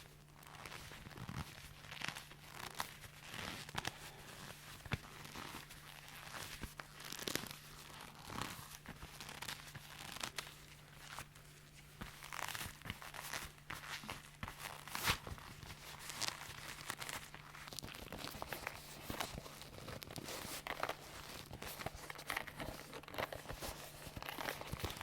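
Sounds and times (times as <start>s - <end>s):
faint steady hum: 0.0s - 25.0s
leather creaking and rustling: 0.3s - 25.0s.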